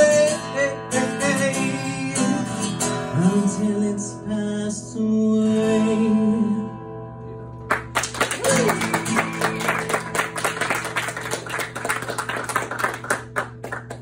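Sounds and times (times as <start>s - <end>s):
acoustic guitar strummed hard: 0.0s - 11.5s.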